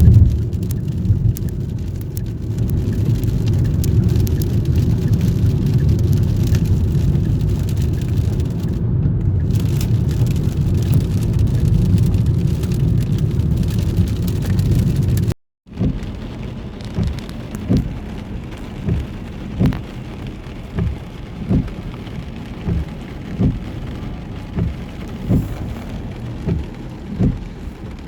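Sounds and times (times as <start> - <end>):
heavy rain rumble: 0.0 - 28.0
rain drop ticks: 0.0 - 28.0.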